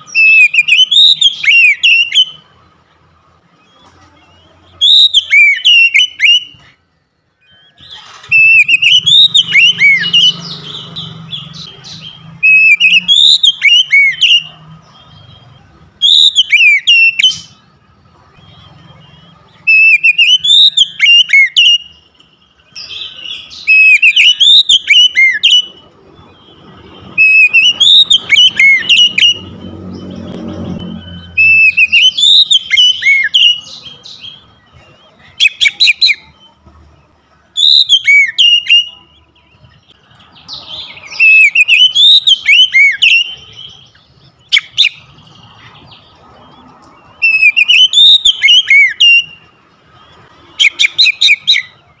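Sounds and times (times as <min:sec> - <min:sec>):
bird whistled song: 0:00.0 - 0:02.6, 0:03.5 - 0:36.6, 0:37.5 - 0:52.0.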